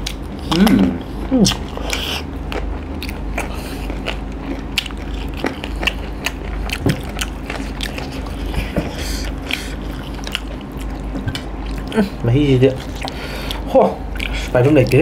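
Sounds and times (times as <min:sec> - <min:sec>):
chewing and wet mouth clicks: 0:00.0 - 0:00.8, 0:01.5 - 0:12.0, 0:12.8 - 0:15.0
low hum: 0:00.0 - 0:15.0.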